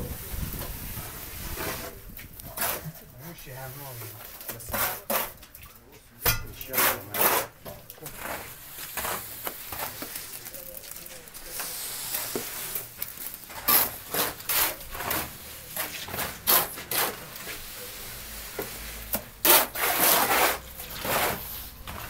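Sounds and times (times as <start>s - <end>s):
plastering tools scraping plaster: 0.0s - 22.0s.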